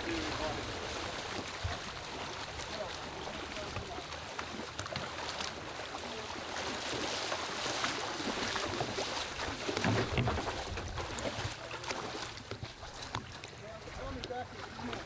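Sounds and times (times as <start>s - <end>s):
people wading through water: 0.0s - 15.0s.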